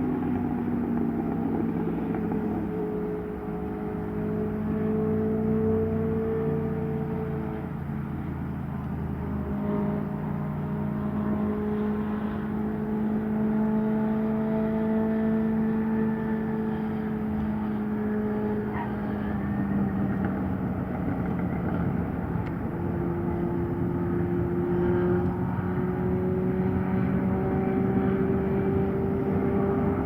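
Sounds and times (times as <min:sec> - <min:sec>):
distant jet engines running: 0:00.0 - 0:30.0
rising engine tone: 0:00.0 - 0:30.0.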